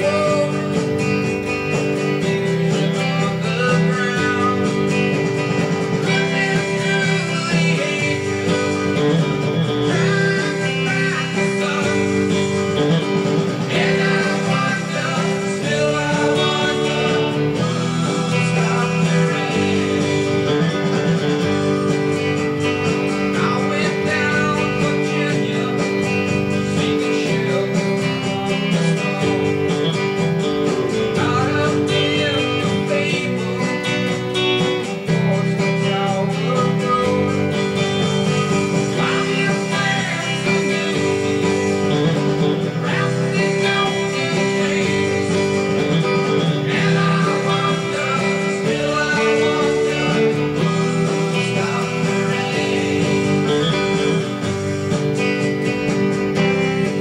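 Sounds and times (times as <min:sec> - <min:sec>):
electric guitar strumming chords: 0:00.0 - 0:57.0.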